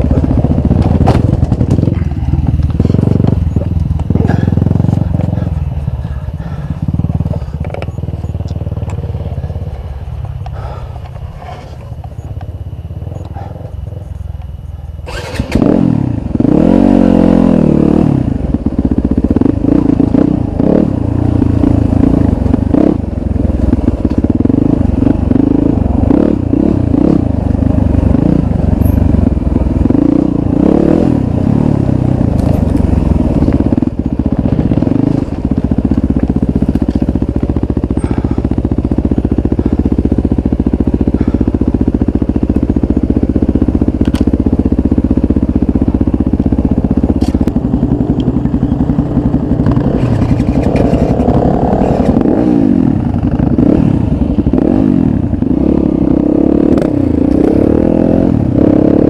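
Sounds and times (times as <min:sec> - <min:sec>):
dirt bike engine revving: 0:00.0 - 0:13.6, 0:15.0 - 0:59.0.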